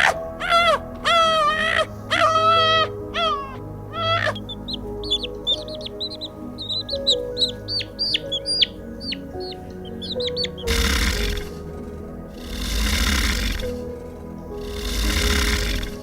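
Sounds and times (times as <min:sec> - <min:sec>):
background music: 0:00.0 - 0:16.0
birds chirping: 0:00.0 - 0:16.0.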